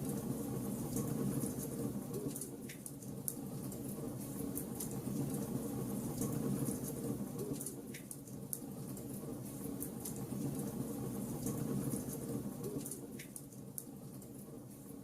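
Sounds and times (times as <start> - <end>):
wood logs crackling in fireplace: 0.0 - 15.0.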